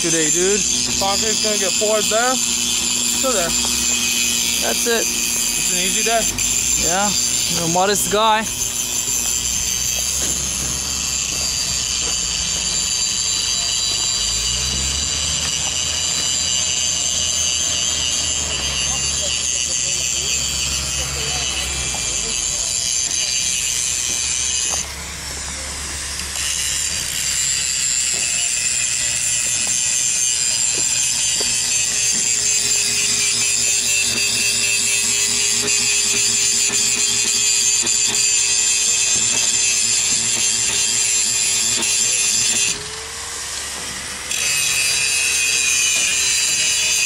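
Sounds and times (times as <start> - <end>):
power tool whining: 0.0 - 47.0.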